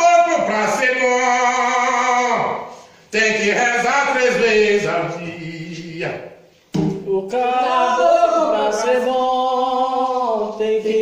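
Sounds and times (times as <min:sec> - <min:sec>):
voices singing: 0:00.0 - 0:11.0.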